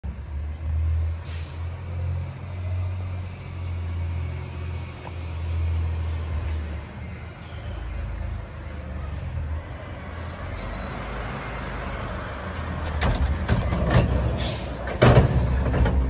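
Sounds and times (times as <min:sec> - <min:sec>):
garbage truck diesel engine rumble: 0:00.1 - 0:16.0.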